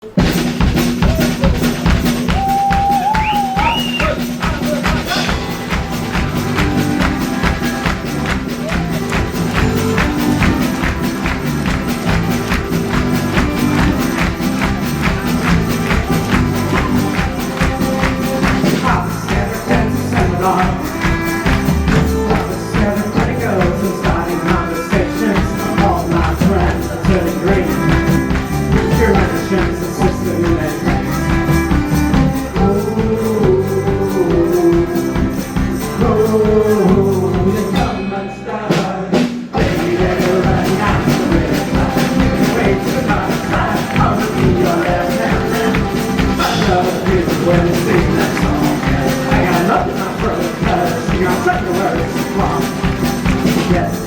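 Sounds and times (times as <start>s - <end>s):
live band playing: 0.0s - 54.0s
tambourine beat: 0.3s - 38.0s, 39.6s - 54.0s.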